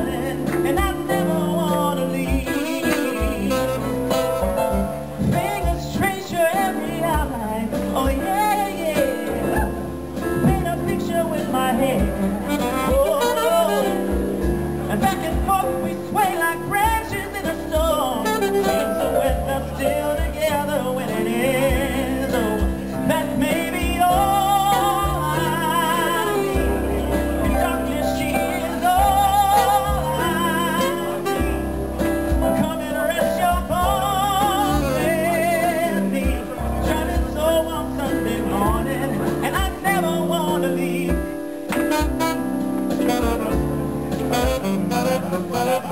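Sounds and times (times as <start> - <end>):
man singing into a microphone: 0.0 - 45.9
piano: 0.0 - 45.9
saxophone: 0.0 - 45.9.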